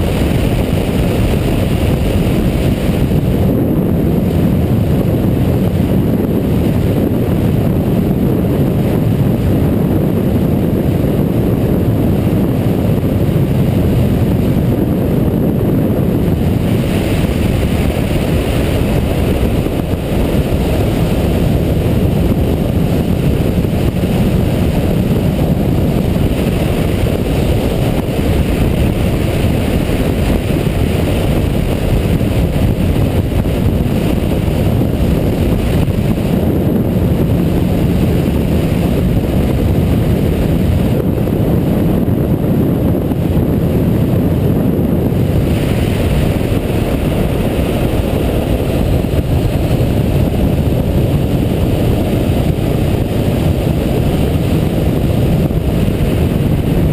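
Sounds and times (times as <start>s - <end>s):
motorcycle engine running: 0.0s - 56.9s
wind rush on microphone: 0.0s - 56.9s.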